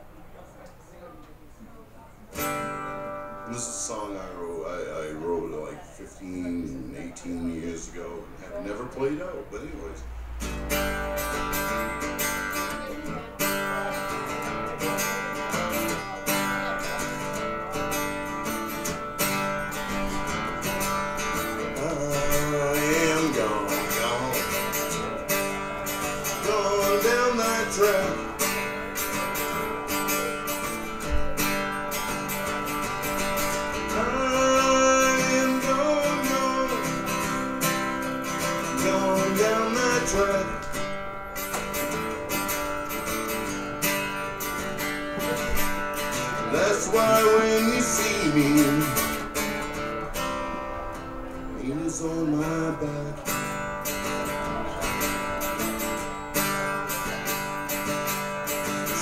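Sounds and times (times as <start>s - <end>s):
bending lead guitar melody: 2.3s - 5.7s, 10.2s - 59.0s
strummed guitar: 2.3s - 59.0s.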